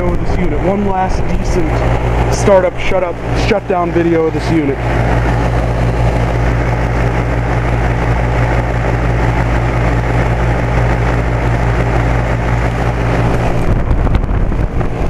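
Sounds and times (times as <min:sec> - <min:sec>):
compressor low hum: 0:00.0 - 0:15.0
condenser fan air rush: 0:00.0 - 0:15.0.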